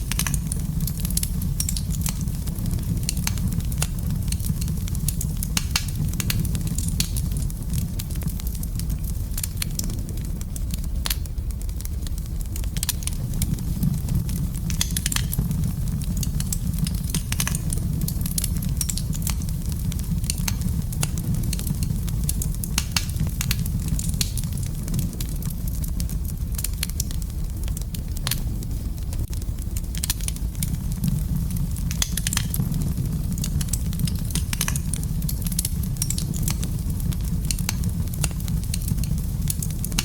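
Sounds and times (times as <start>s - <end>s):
fire crackling and popping: 0.0s - 40.0s
fire rumbling in fireplace: 0.0s - 40.0s.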